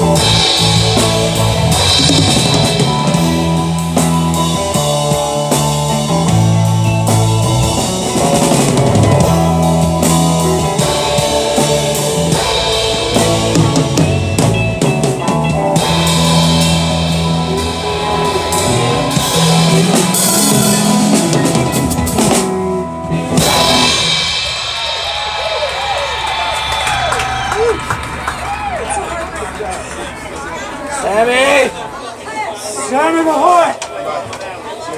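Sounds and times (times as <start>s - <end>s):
electric guitar: 0.0s - 28.9s
drum kit: 0.0s - 30.0s
bass guitar: 0.0s - 32.0s.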